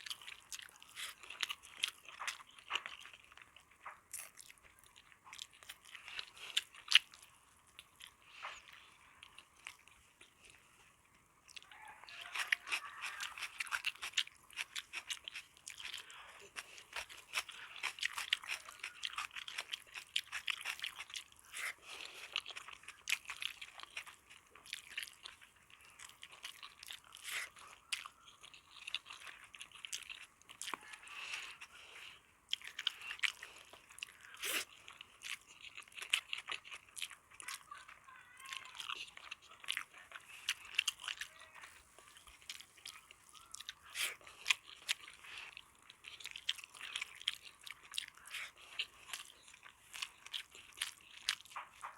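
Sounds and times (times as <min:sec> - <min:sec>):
chewing crunchy food: 0:00.0 - 0:51.9.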